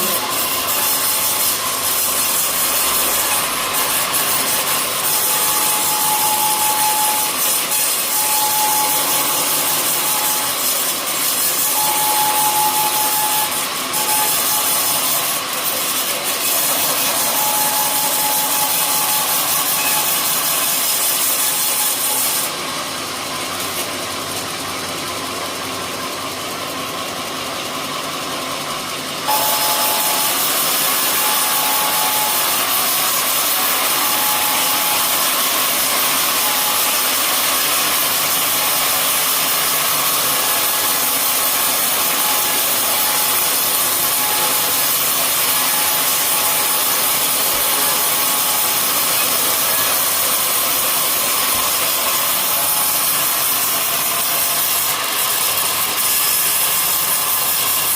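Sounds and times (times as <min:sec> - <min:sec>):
sawmill blade cutting wood: 0:00.0 - 0:24.6, 0:29.2 - 0:57.9.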